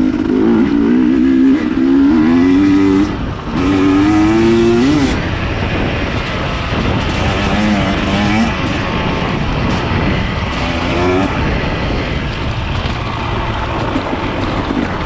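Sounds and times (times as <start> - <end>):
motorcycle engine revving: 0.0 - 15.0
wind and riding noise: 0.0 - 15.0.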